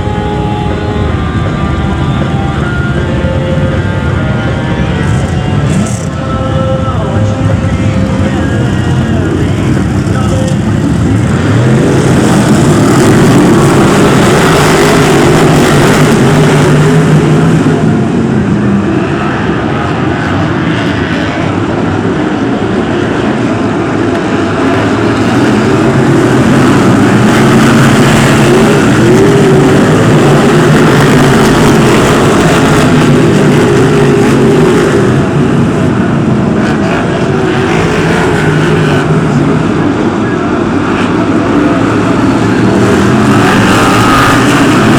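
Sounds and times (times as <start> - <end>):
racing car engines: 0.0 - 44.9.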